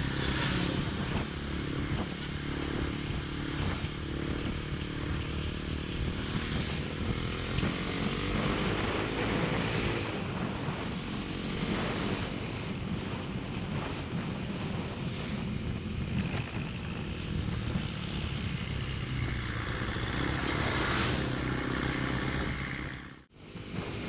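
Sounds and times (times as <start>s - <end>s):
motorcycle engine accelerating: 0.0s - 24.0s
wind rush on microphone: 0.0s - 24.0s.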